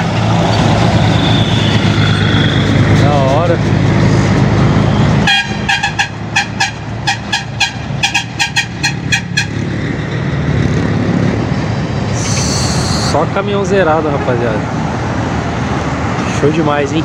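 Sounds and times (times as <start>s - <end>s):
passing traffic: 0.0s - 17.0s
truck diesel engine rumbling past: 0.0s - 17.0s.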